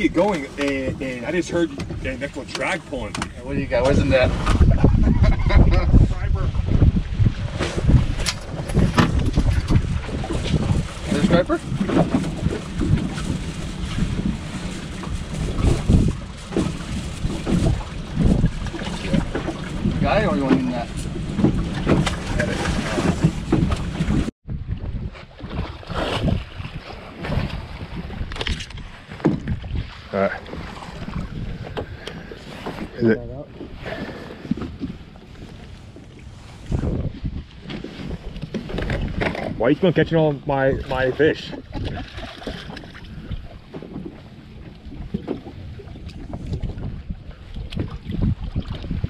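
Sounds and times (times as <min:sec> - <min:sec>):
water washing against boat: 0:00.0 - 0:49.0
wind buffeting microphone: 0:00.0 - 0:49.0.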